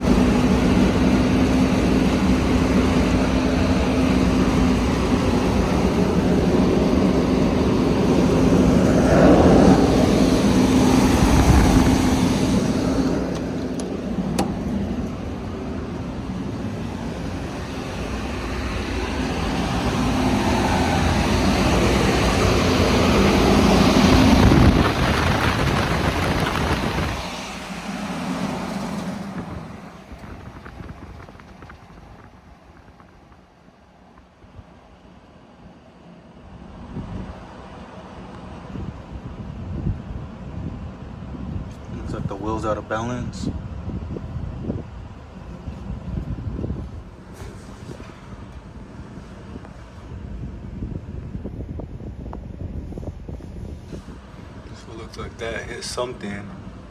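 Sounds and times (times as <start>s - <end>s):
blower humming and rumbling: 0.0s - 56.9s.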